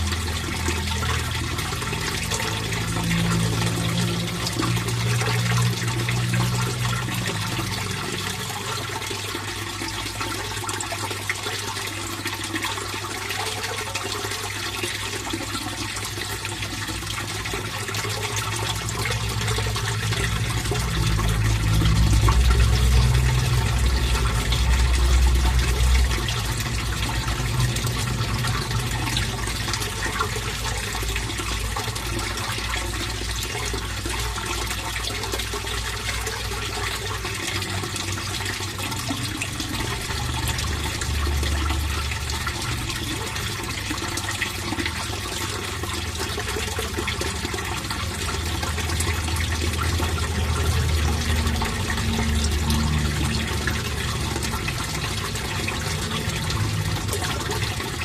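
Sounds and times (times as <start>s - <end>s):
water flowing into pond: 0.0s - 58.0s.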